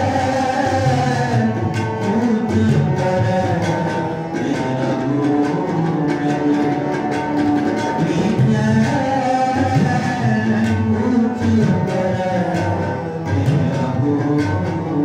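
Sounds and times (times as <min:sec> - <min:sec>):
man singing: 0:00.0 - 0:07.2, 0:07.9 - 0:15.0
harmoniums playing chords: 0:00.0 - 0:15.0.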